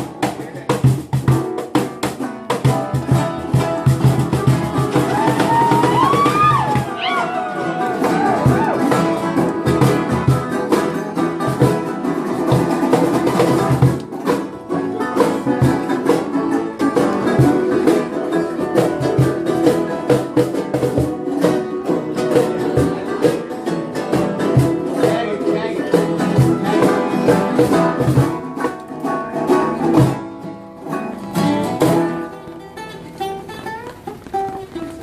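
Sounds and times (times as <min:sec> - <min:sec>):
steady beat: 0:00.0 - 0:35.0
strummed string instruments: 0:00.0 - 0:35.0.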